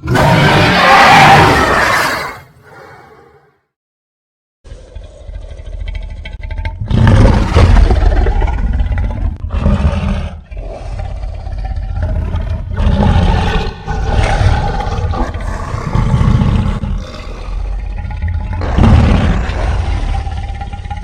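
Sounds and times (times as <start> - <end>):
cartoon dinosaur roaring: 0.0 - 3.4, 6.8 - 21.0.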